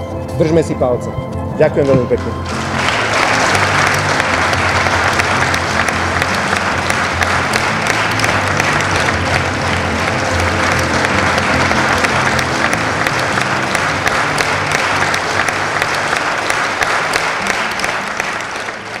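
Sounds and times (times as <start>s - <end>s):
crowd applauding: 1.8s - 19.0s.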